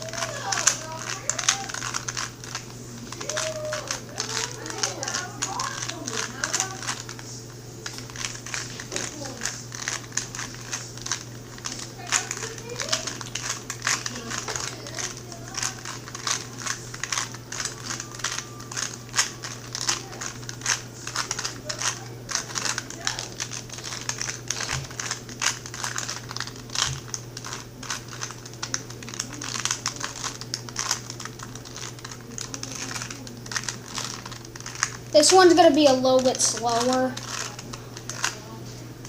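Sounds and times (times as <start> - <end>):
puzzle cube clicking as turned: 0.1 - 7.2, 7.9 - 35.0.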